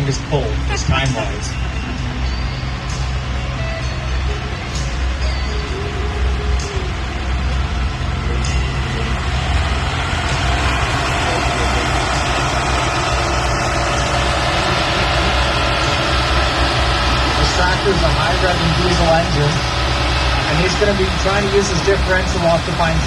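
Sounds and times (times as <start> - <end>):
diesel tractor engine running: 0.0 - 23.0
faint steady whine: 0.0 - 23.0.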